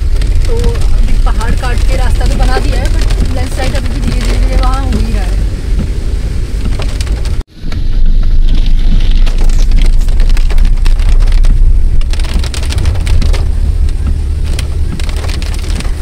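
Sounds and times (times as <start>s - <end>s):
car road rumble: 0.0s - 16.0s
heavy rain drumming on car roof: 0.0s - 16.0s.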